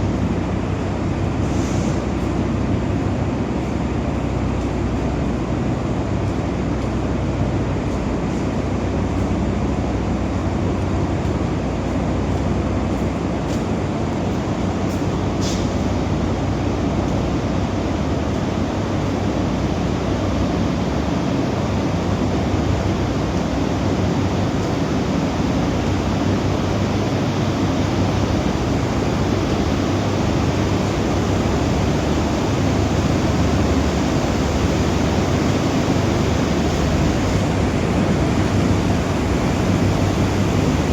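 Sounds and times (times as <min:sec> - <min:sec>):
ventilation fans rushing: 0:00.0 - 0:40.9.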